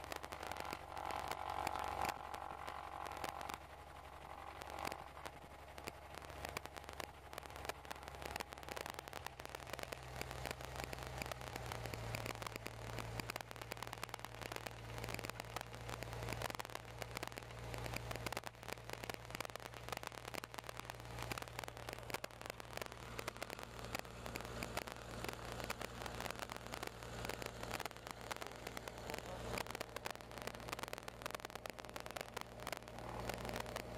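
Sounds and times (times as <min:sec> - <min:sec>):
crackling hiss: 0:00.0 - 0:33.9
light aircraft engine and propeller: 0:00.0 - 0:33.9.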